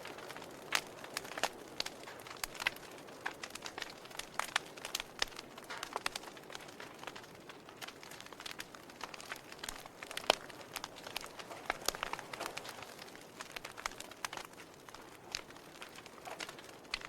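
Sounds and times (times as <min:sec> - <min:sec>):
fire crackling and popping: 0:00.0 - 0:17.0
soft fire hiss: 0:00.0 - 0:17.0.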